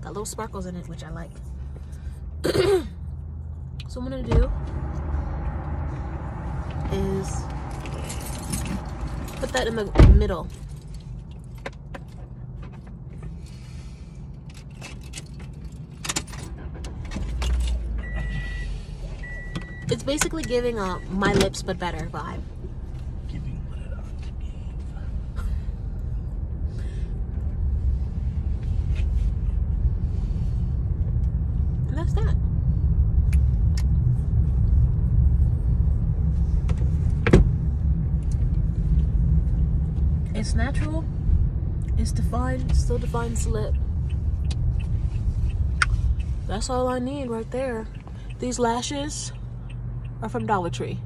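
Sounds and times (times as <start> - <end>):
car interior hum: 0.0 - 51.0.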